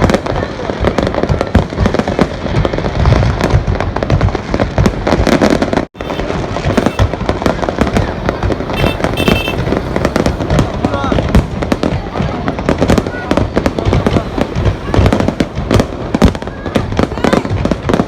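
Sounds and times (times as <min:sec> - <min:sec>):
deep booming: 0:00.0 - 0:18.0
fireworks bangs and crackles: 0:00.0 - 0:18.0.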